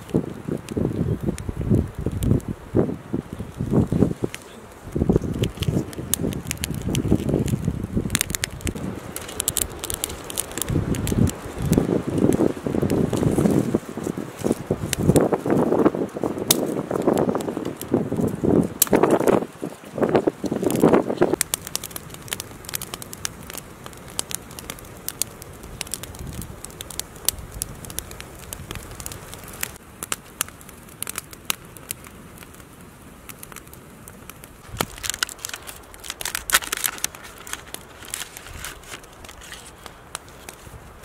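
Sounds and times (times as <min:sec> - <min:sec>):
campfire crackling: 0:00.0 - 0:41.0
sharp pops from fire: 0:00.0 - 0:41.0.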